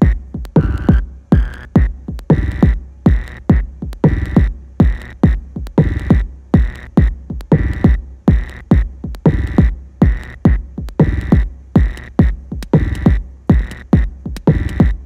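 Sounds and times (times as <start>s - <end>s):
hissy hi-hat hits: 0.0s - 15.0s
kick drum: 0.0s - 15.0s
techno music: 0.0s - 15.0s.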